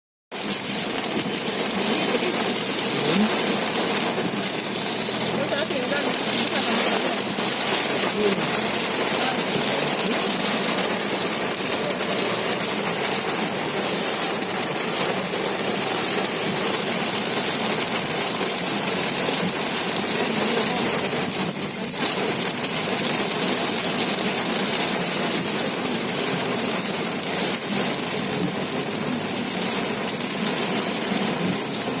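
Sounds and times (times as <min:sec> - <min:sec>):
rain falling steadily: 0:00.3 - 0:32.0.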